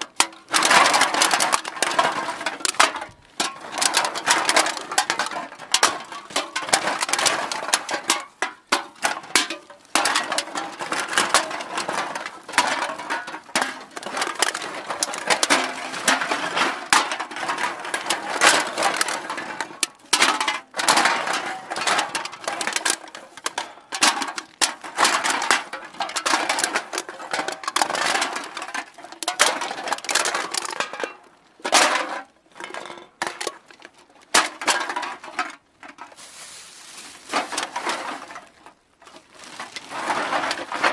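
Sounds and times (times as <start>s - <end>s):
cans clattering and clinking: 0.0s - 40.9s.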